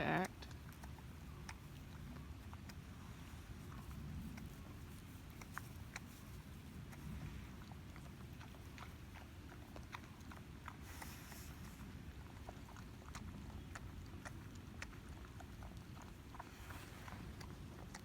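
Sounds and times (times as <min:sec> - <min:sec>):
faint clicks and rustles: 0:00.3 - 0:18.0.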